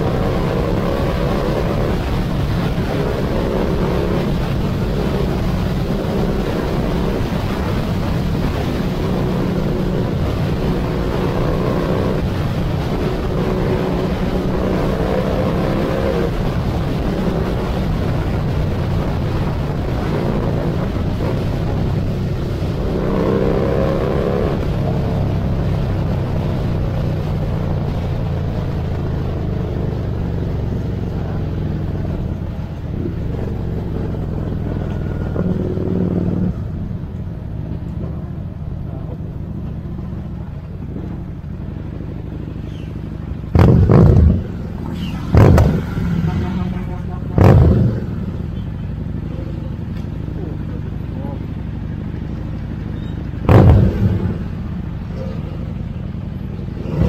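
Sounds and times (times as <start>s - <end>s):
wind rushing over microphone: 0.0s - 39.0s, 40.2s - 48.6s, 53.3s - 57.0s
motorcycle engine revving: 0.0s - 57.0s.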